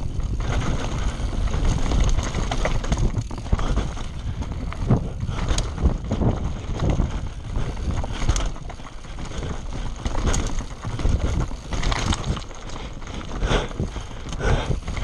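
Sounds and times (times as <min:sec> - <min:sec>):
bike knocking and rattling: 0:00.0 - 0:15.0
bike tyres rolling over stones: 0:00.0 - 0:15.0
wind buffeting microphone: 0:00.0 - 0:15.0.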